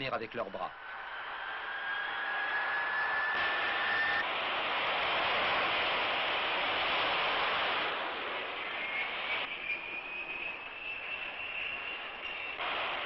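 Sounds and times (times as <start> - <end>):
turbine engine roar and whine: 0.6 - 13.0.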